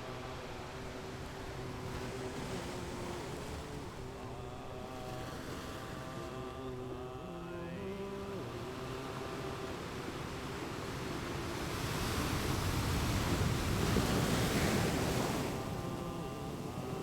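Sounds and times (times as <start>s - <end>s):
sea waves washing in: 0.0s - 17.0s.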